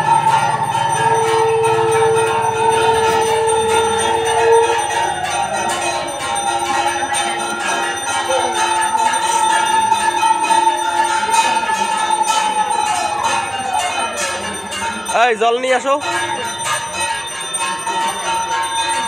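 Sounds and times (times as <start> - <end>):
bell ringing: 0.0 - 19.0.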